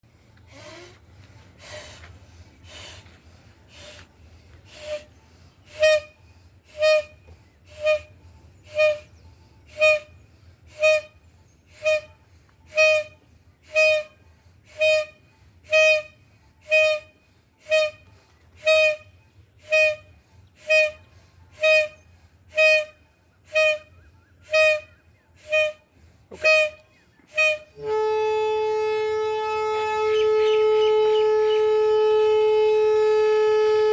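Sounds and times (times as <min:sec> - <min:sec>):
horn honking: 0:03.8 - 0:33.9
long horn blast: 0:04.7 - 0:33.9.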